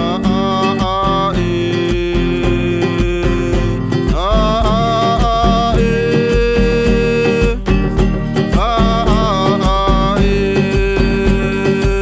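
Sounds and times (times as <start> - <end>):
acoustic guitar strumming: 0.0 - 12.0
low drum beat: 0.0 - 12.0.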